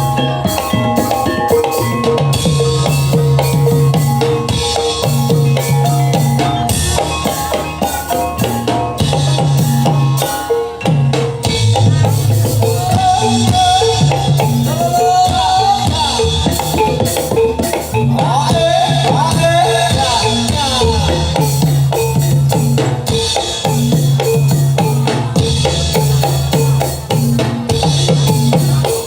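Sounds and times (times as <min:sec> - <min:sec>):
wavering melody line: 0:00.0 - 0:27.1
driving drums and percussion: 0:00.0 - 0:29.0.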